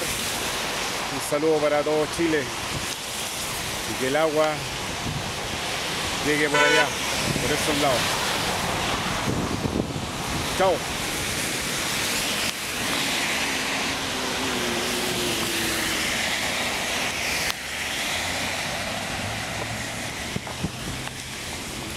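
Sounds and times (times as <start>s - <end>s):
cars driving on wet road: 0.0s - 21.9s
heavy rain hissing: 0.0s - 21.9s.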